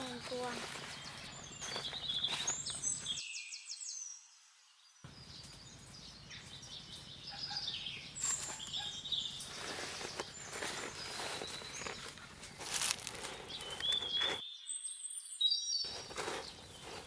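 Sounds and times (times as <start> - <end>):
birds chirping with trills: 0.0 - 17.0.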